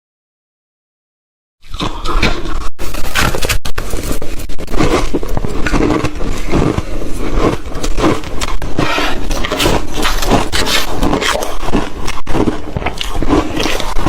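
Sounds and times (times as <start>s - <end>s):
ice being chewed: 1.6s - 14.0s.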